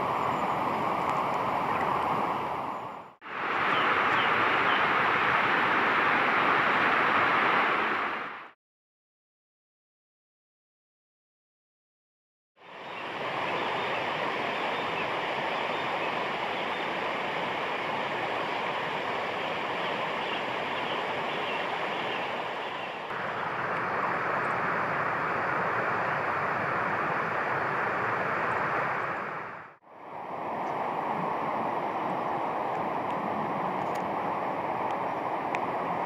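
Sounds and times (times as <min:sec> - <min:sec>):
water rushing over rocks: 0:00.0 - 0:08.5, 0:13.0 - 0:36.0.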